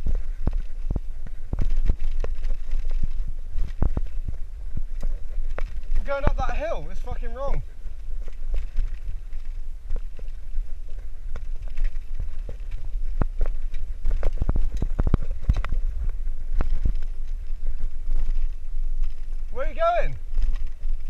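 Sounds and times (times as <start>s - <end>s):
bicycle rolling over concrete: 0.0s - 21.0s
bike rattling over bumps: 0.0s - 21.0s
wind rumbling on microphone: 0.0s - 21.0s.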